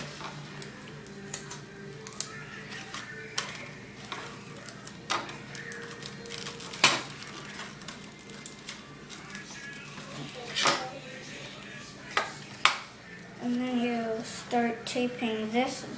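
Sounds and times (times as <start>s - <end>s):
paper and tape crinkling: 0.0s - 14.6s.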